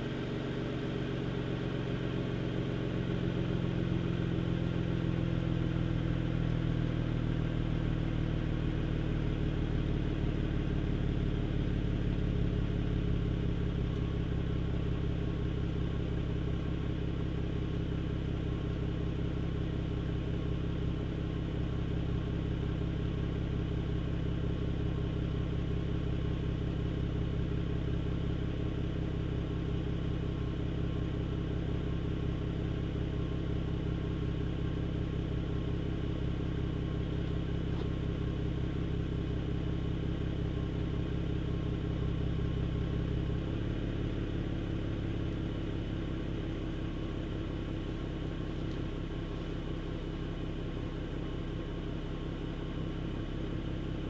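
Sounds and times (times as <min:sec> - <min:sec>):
car exhaust idling drone: 0:00.0 - 0:54.0.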